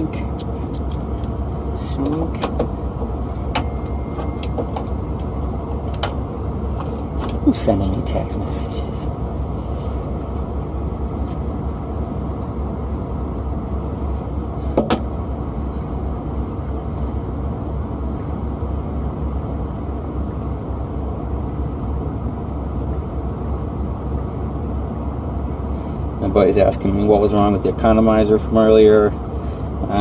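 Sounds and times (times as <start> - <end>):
low rumbling noise: 0.0 - 30.0.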